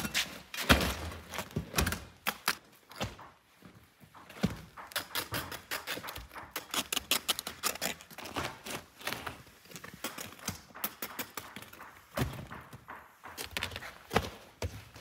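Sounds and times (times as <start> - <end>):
flatbreads clicking and tapping: 1.2 - 15.0.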